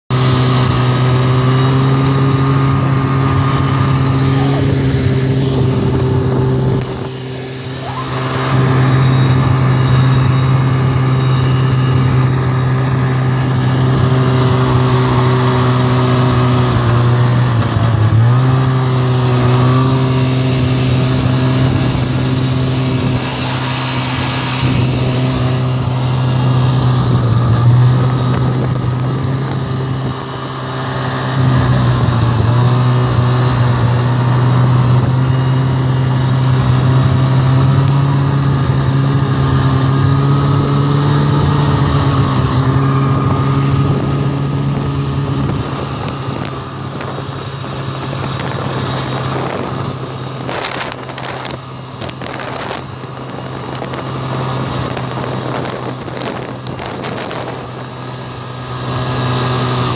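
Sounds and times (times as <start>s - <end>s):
snowmobile engine running: 0.1s - 59.9s.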